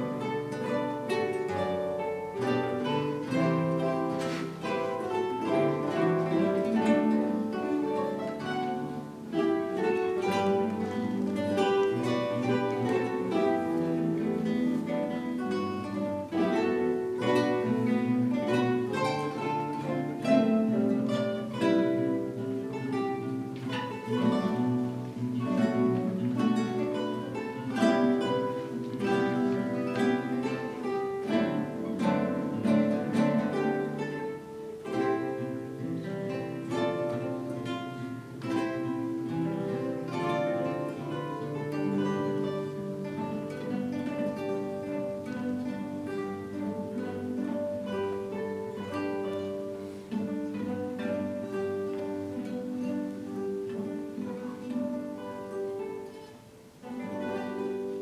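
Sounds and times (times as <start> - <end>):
acoustic guitar ensemble playing: 0.0 - 58.0.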